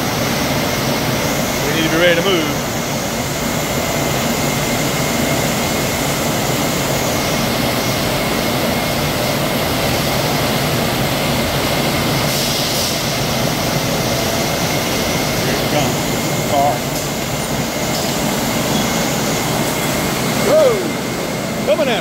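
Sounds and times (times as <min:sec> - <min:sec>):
industrial machinery drone: 0:00.0 - 0:22.0.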